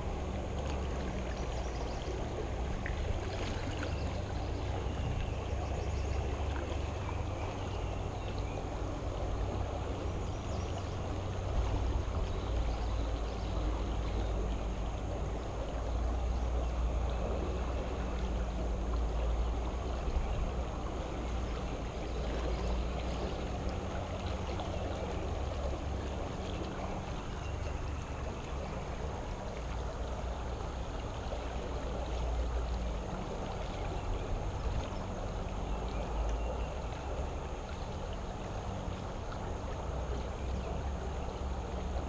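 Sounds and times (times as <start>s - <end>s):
creek water flowing: 0.0s - 42.0s.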